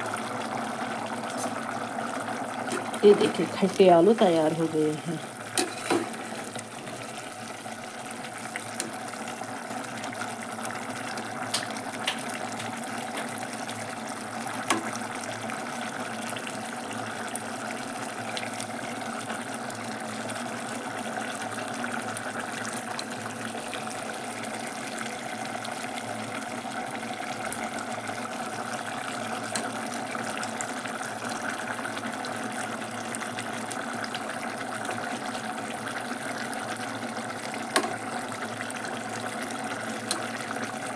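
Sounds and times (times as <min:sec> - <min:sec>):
curry simmering in a pot: 0:00.0 - 0:04.6, 0:05.2 - 0:40.9.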